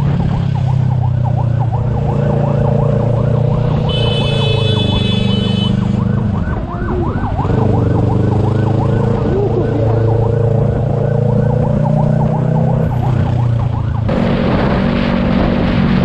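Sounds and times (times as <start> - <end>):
siren yelping: 0.0 - 14.3
motorcycle engine hum: 0.0 - 16.0.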